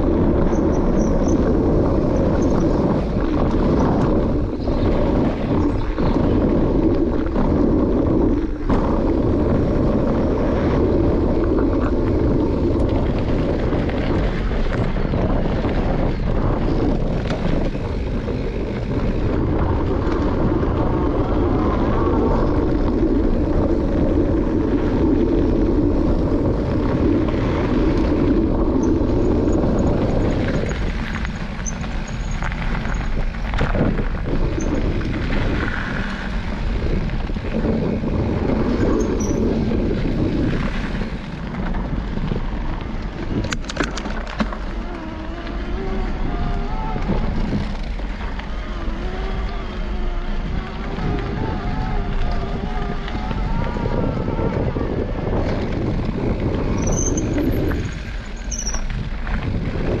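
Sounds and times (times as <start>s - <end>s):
tyres rolling on gravel: 0.0s - 60.0s
wind rushing over microphone: 0.0s - 60.0s.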